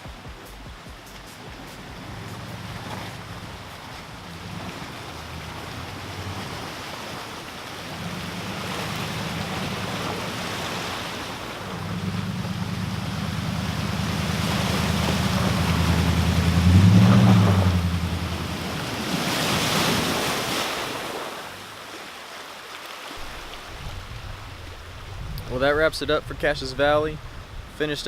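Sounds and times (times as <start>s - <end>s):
steady rushing noise: 0.0s - 20.3s, 23.2s - 28.0s
off-road vehicle engine: 0.0s - 21.8s, 23.2s - 28.0s.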